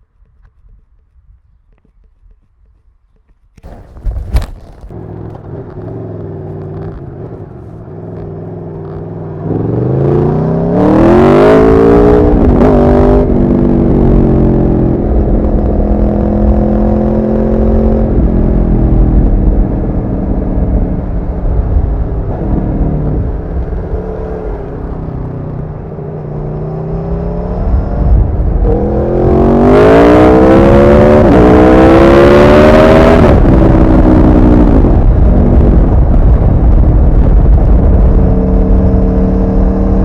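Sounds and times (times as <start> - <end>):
motorcycle engine revving: 3.6 - 40.0.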